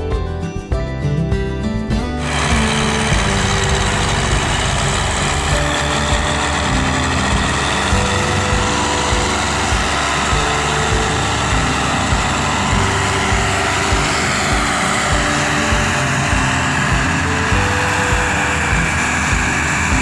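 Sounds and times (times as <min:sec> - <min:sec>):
music with steady beat: 0:00.0 - 0:20.0
tractor diesel engines working hard: 0:01.9 - 0:20.0.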